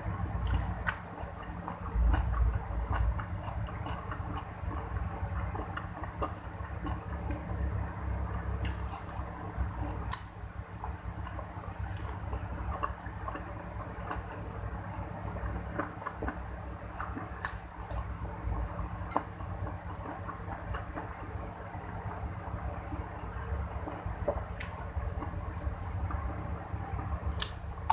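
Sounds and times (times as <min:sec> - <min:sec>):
low steady hum: 0:00.0 - 0:27.9
moist chewing: 0:00.1 - 0:07.7, 0:08.3 - 0:21.3, 0:23.8 - 0:26.3.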